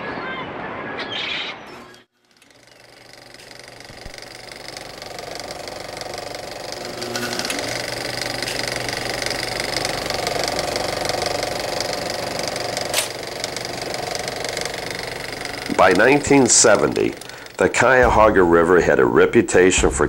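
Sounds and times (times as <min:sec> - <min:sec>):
machine hum: 0:01.9 - 0:19.9
machine clattering: 0:02.3 - 0:18.8.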